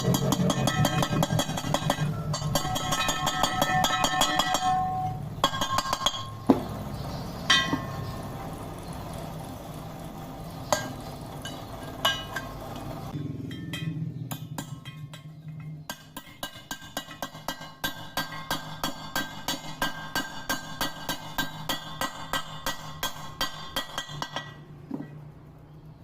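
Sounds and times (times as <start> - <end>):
metal clinks and knocks: 0.0 - 6.8, 7.5 - 8.5, 10.7 - 25.3.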